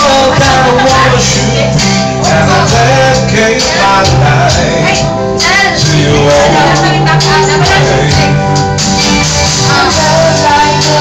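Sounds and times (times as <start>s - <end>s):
karaoke backing music: 0.0s - 11.0s
man singing into microphone: 0.0s - 11.0s.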